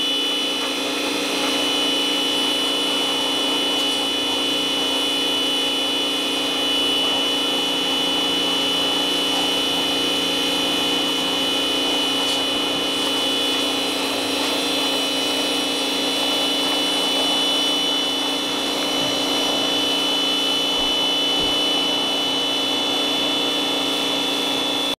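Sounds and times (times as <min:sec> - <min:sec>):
pressure washer motor whine: 0:00.0 - 0:25.0.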